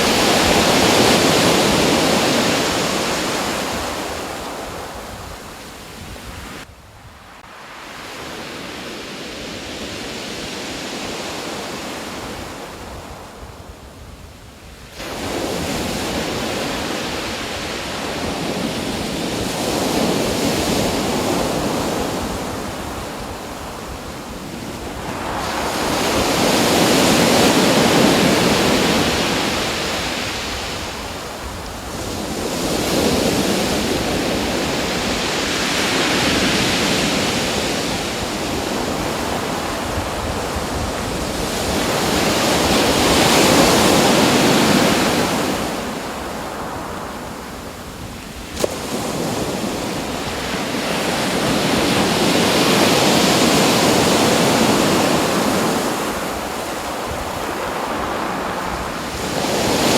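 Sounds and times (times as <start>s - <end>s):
ocean waves breaking: 0.0s - 6.6s, 15.0s - 59.9s.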